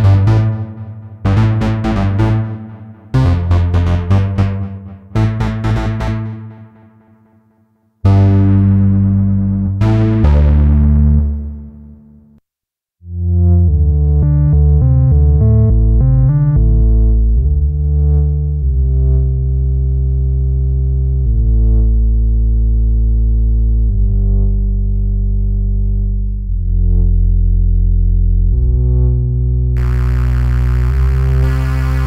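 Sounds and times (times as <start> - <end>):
synthesizer chords and notes: 0.0 - 7.0, 8.1 - 12.0, 13.1 - 32.0.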